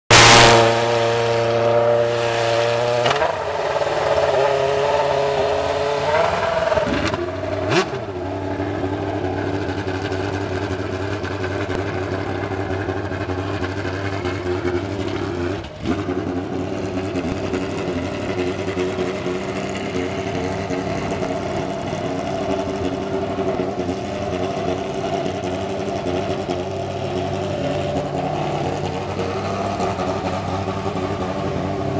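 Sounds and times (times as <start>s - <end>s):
racing engine idling: 3.2s - 31.9s.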